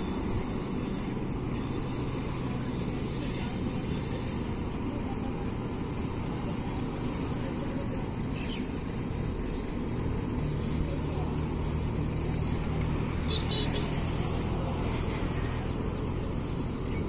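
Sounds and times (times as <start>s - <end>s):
distant train rumbling: 0.0s - 17.0s.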